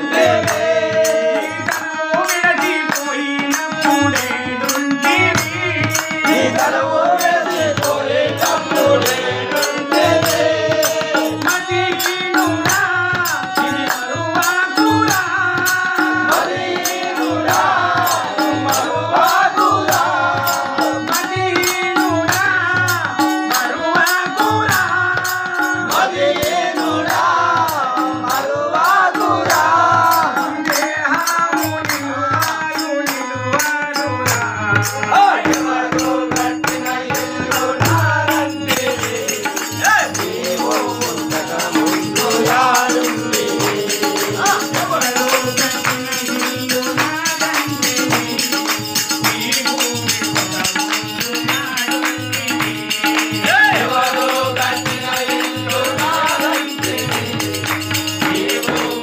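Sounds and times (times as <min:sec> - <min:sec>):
man singing: 0:00.0 - 0:59.0
rattling hand percussion: 0:00.0 - 0:59.0
tabla: 0:00.0 - 0:59.0.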